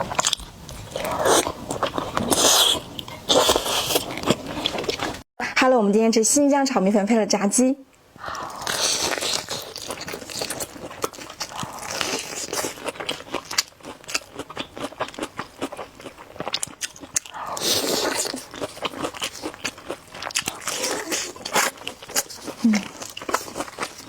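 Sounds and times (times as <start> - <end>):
crunching and chewing fried chicken: 0.0 - 5.2, 8.2 - 24.0.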